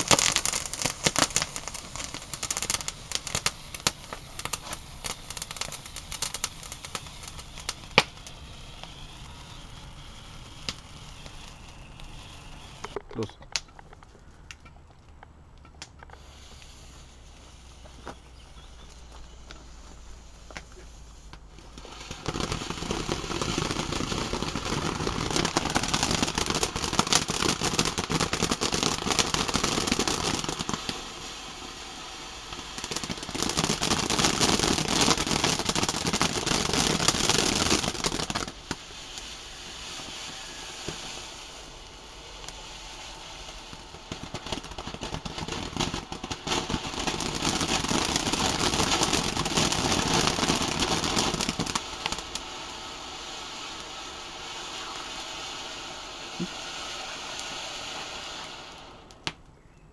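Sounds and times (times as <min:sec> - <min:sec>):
firework crackling hiss: 0:00.0 - 0:14.6, 0:15.8 - 0:59.5.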